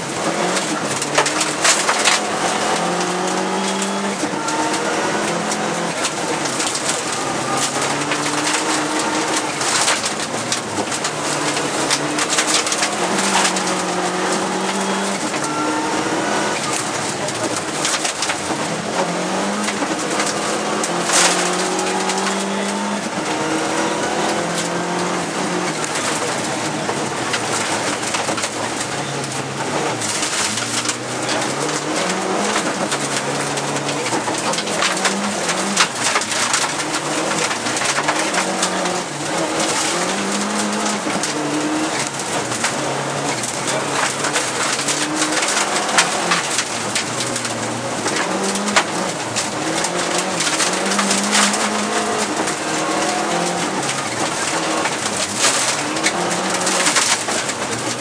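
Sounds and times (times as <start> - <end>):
car engine revving: 0.0 - 58.0
gravel clattering off tyres: 0.0 - 58.0.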